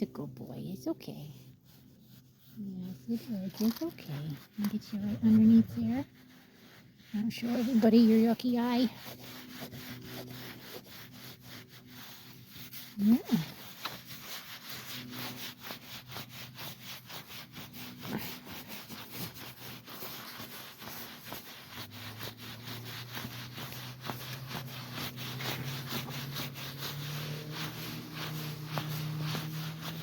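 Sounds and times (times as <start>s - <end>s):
gloved hand scratching animal coat: 0.0s - 30.0s.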